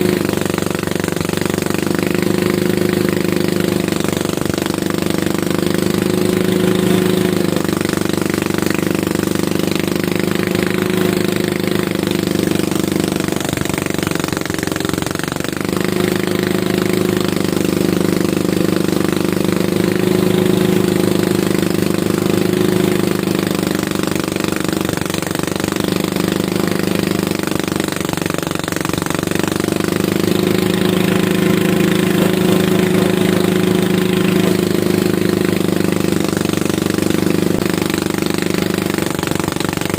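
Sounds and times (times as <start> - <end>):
harvester engine rattling: 0.0 - 39.9.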